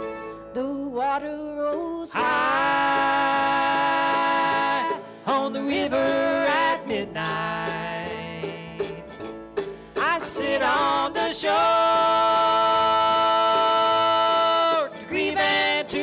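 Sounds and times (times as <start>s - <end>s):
acoustic band playing: 0.0s - 16.0s.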